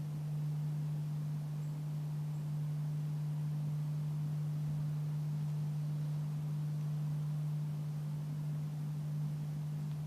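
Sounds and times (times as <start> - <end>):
faint background hiss: 0.0 - 10.0
steady low hum: 0.0 - 10.0.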